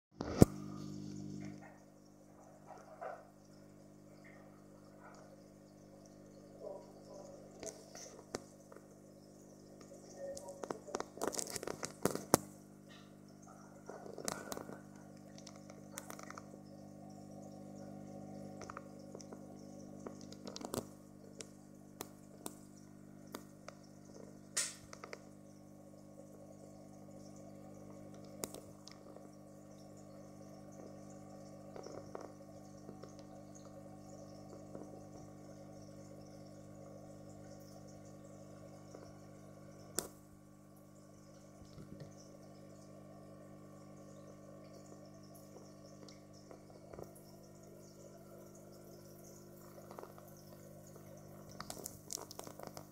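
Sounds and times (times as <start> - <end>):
aquarium filter humming: 0.1 - 52.9
faint water trickle: 0.3 - 52.9.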